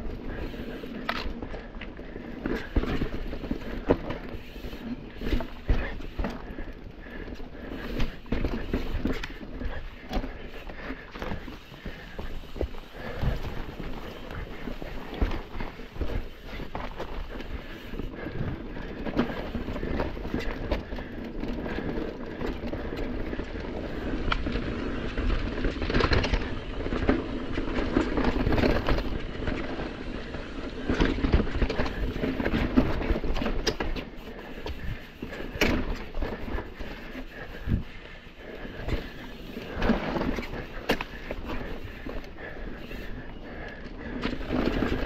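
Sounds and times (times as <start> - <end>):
bike rattling over rocks: 0.0 - 45.0
bike tyres rolling: 0.0 - 45.0.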